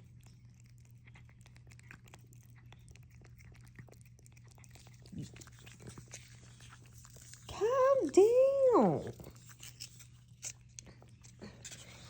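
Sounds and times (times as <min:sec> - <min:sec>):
cats licking wet clicks: 0:00.0 - 0:12.0.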